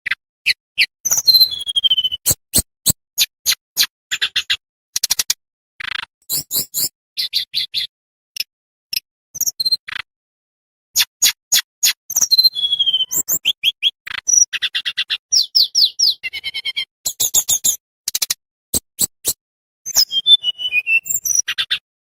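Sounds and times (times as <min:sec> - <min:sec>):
bird singing clicks and whistles: 0:00.0 - 0:10.1, 0:10.9 - 0:21.8.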